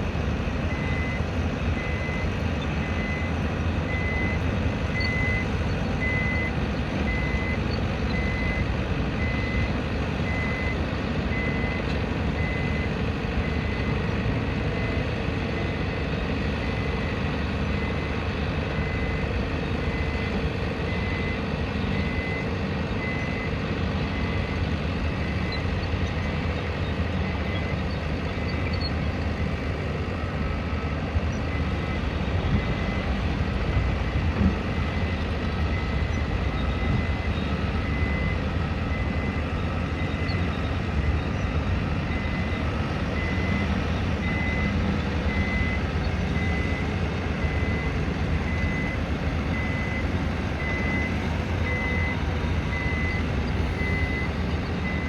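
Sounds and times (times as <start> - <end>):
heavy engines rumbling: 0.0 - 55.0
reversing alarm beeping: 0.6 - 23.6, 31.4 - 55.0.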